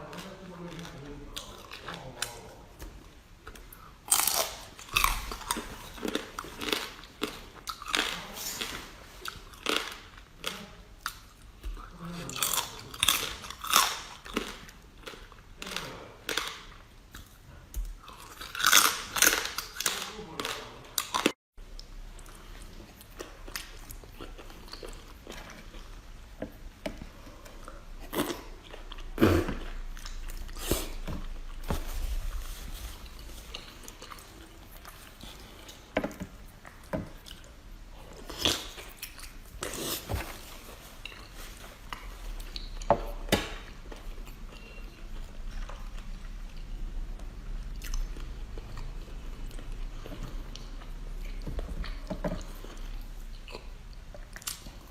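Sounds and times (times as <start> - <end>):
chewing and crunching food: 0.0 - 54.9.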